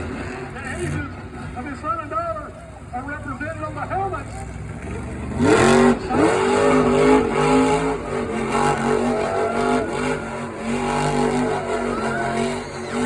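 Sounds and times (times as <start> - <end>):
truck engine revving in surges: 0.0 - 13.0.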